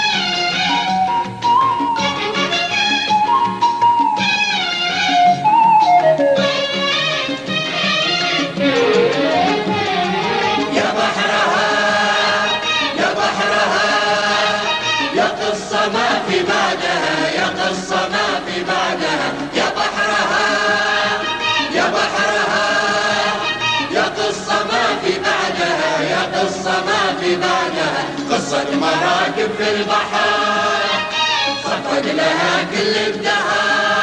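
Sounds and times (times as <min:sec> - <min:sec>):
chorus singing with music: 0:00.0 - 0:34.0.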